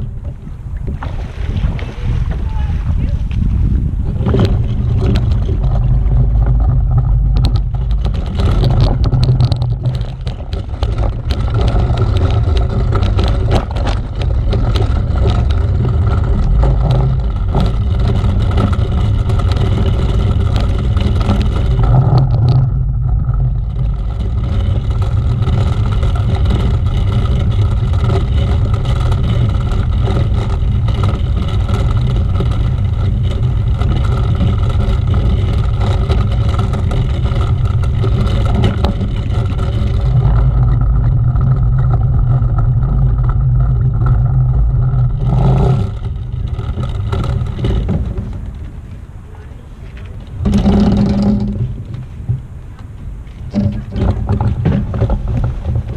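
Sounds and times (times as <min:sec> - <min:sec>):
rattling and clattering: 0:00.0 - 0:55.9
vehicle engine rumble: 0:00.0 - 0:55.9.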